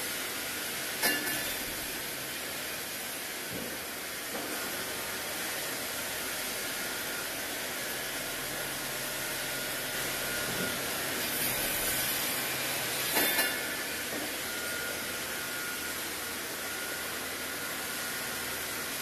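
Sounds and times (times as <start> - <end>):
machine hiss: 0.0 - 19.0.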